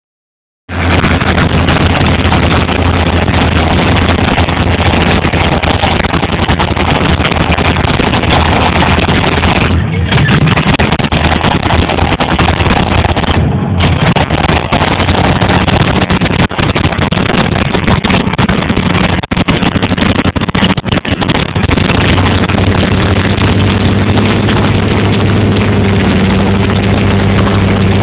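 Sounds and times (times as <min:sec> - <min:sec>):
truck engine running hard: 0:00.7 - 0:28.0.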